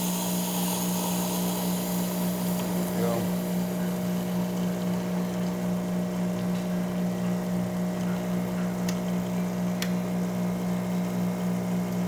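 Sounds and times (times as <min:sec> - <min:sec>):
espresso machine pump buzzing: 0:00.0 - 0:12.0.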